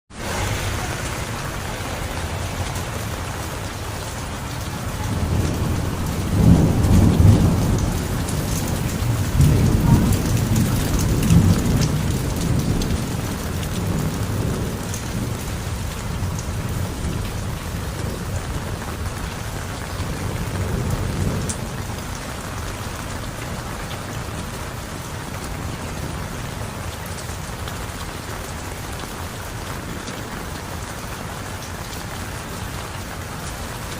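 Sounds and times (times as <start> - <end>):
thunder rumbling: 0.1 - 30.9
heavy rain falling: 0.1 - 33.9.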